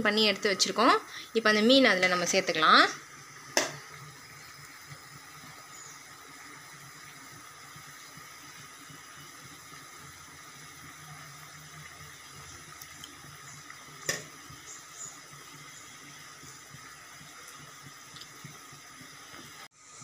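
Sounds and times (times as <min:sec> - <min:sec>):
curry bubbling in a pot: 0:00.6 - 0:19.8.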